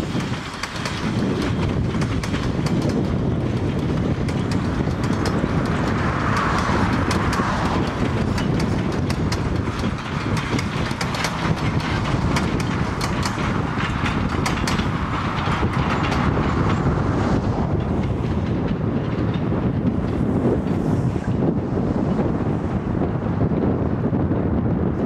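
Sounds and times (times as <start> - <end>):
train wheels clicking over rail joints: 0.0 - 24.2
train rumble: 0.0 - 25.0.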